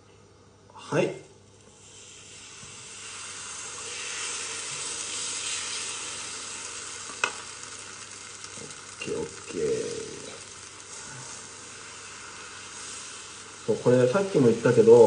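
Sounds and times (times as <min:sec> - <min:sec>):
batter sizzling in hot pan: 0:01.4 - 0:15.0.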